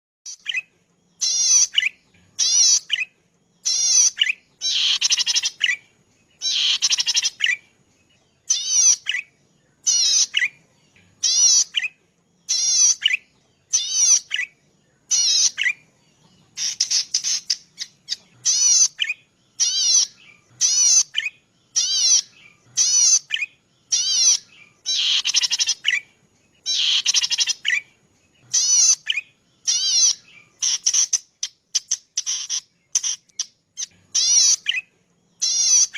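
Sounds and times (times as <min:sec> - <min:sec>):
songbird singing buzzy phrases: 0:00.3 - 0:35.9.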